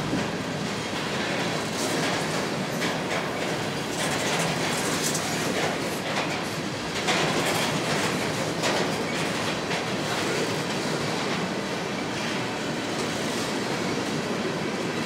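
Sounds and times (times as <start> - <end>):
steel wheels rumbling on rail: 0.0 - 15.0.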